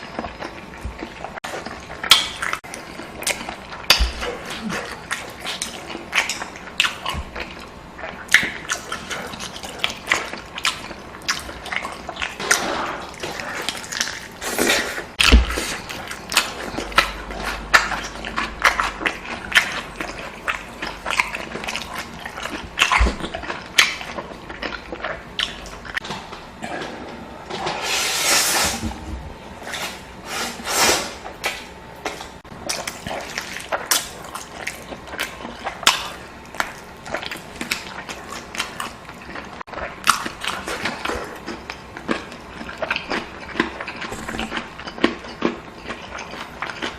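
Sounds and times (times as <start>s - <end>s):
wet chewing smacks and clicks: 0.0s - 12.6s, 13.2s - 26.0s, 31.4s - 46.9s.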